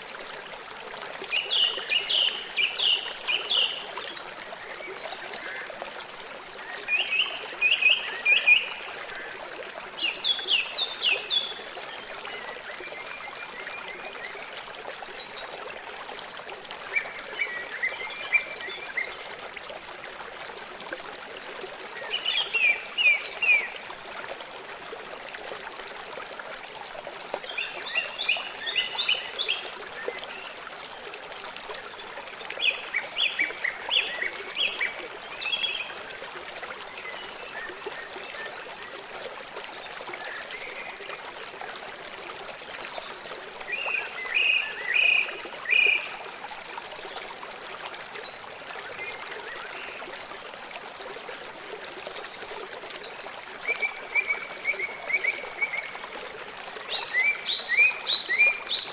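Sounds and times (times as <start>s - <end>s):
stream running: 0.0s - 58.9s.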